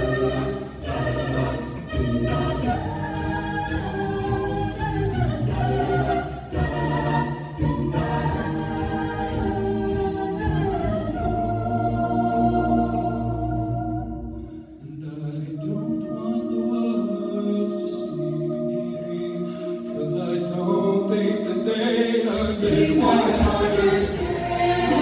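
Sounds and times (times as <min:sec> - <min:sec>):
a cappella group singing chords: 0:00.0 - 0:25.0.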